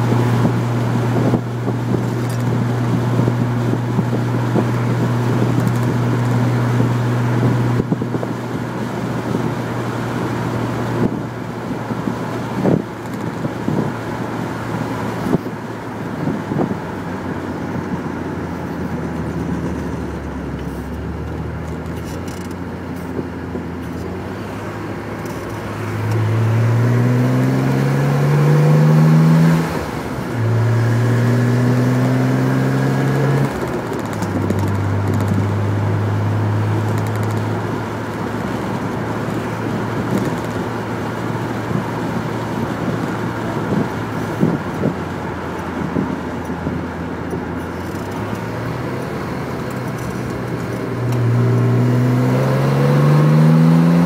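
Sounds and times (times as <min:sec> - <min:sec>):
car engine revving while driving: 0:00.0 - 0:54.0.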